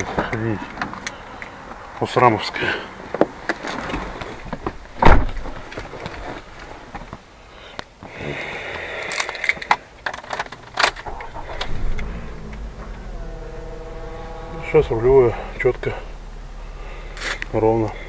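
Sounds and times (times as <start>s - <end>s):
road and engine rumble: 0.0s - 18.0s.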